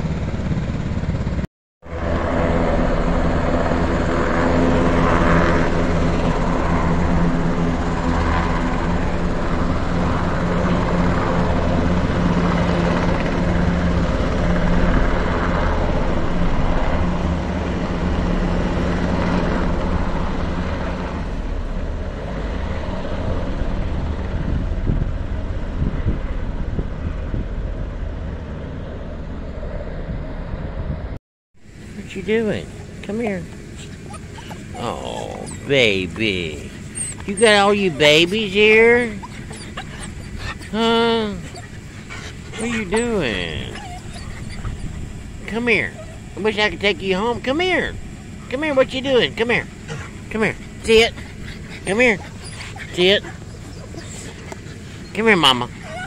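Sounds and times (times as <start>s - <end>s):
helicopters flying overhead: 0.0s - 56.0s.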